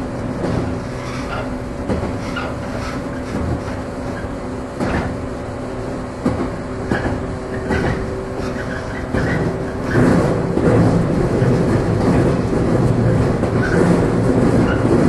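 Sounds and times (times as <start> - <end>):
train rumble and motor hum: 0.0 - 15.0
wheels clicking over rail joints: 0.0 - 15.0.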